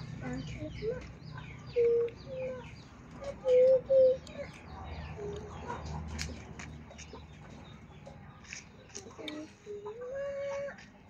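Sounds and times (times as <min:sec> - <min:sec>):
chickens calling low notes: 0:00.0 - 0:11.0.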